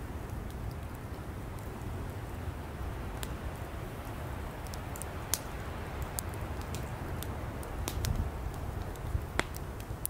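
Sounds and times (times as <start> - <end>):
campfire burning low rumble: 0.0 - 10.0
firewood crackle: 0.0 - 10.0.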